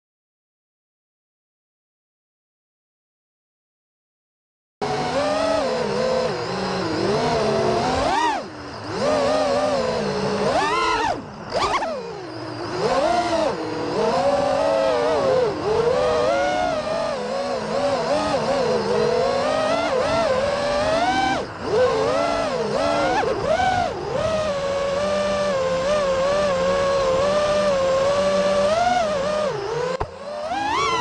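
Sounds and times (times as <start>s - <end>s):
drone motors whining: 4.8s - 31.0s.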